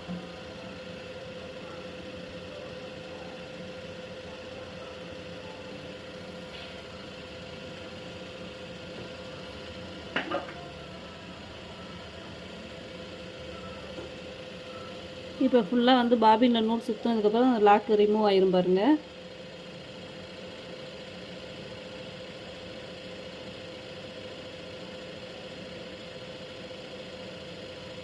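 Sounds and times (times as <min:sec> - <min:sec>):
sewing machine motor hum: 0:00.0 - 0:28.0.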